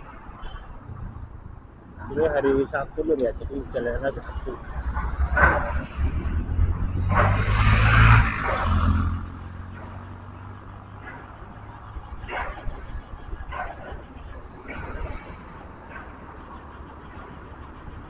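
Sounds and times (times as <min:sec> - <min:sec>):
motorcycle engine and wind rumble: 0:00.0 - 0:18.0.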